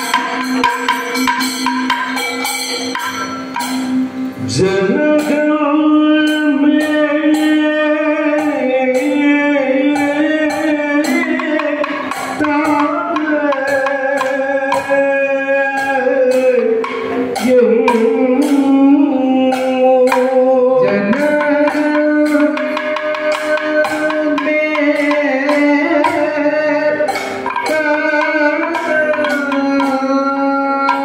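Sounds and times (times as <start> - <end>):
hand cymbals: 0.0 - 31.0
sharp drum strokes: 0.0 - 31.0
men singing gliding melody: 4.4 - 31.0.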